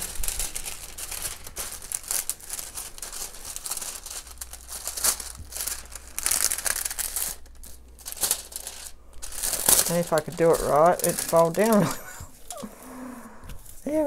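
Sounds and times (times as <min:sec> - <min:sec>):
plastic film crinkling: 0:00.0 - 0:14.0.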